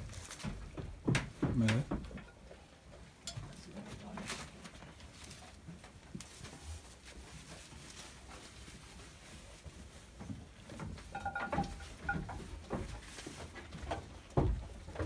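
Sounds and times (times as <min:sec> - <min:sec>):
goats rustling hay: 0:00.0 - 0:01.0, 0:03.8 - 0:15.0.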